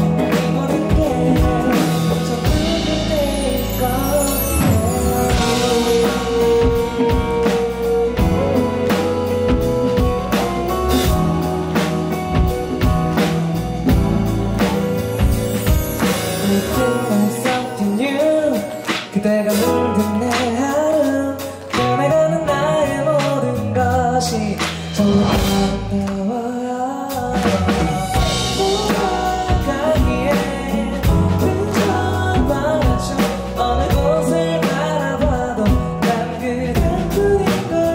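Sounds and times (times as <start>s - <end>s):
man singing: 0.0s - 13.3s, 15.2s - 37.9s
drum kit beat: 0.0s - 26.3s, 27.1s - 37.9s
electric guitar: 0.0s - 37.9s.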